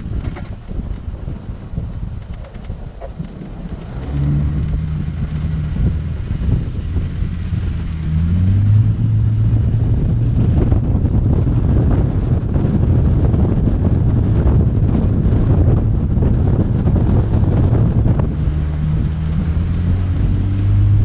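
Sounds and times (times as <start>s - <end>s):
vehicle engine pulling: 0.0s - 21.0s
wind buffeting microphone: 0.0s - 21.0s.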